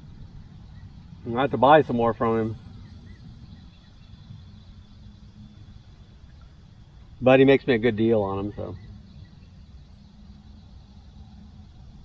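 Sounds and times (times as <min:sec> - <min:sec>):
bird-like chirp: 0:00.0 - 0:12.0
low steady rumble: 0:00.0 - 0:12.0.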